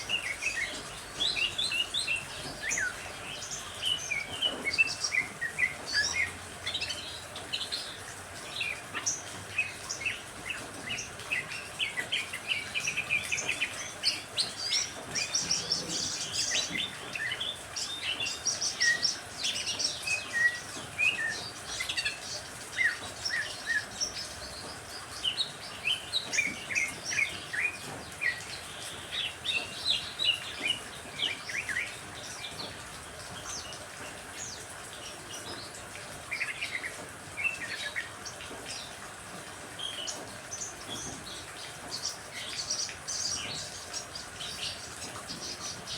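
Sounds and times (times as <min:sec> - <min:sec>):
birds chirping and trilling: 0:00.0 - 0:45.9
faint hiss of rain: 0:00.0 - 0:45.9.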